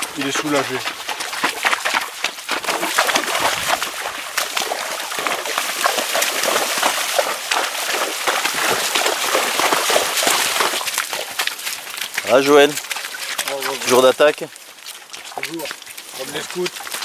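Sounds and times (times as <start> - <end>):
hooves splashing through water: 0.0 - 17.0.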